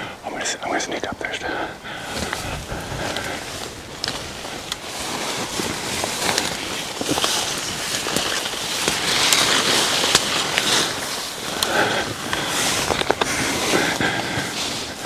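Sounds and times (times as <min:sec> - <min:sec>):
twigs crackling: 0:01.5 - 0:15.0
footsteps through dry brush: 0:01.8 - 0:15.0.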